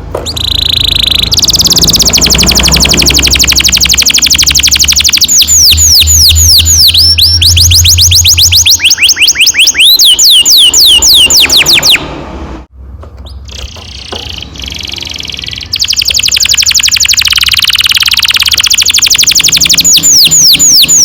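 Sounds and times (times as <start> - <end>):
canary singing: 0.1 - 12.2, 13.2 - 21.0.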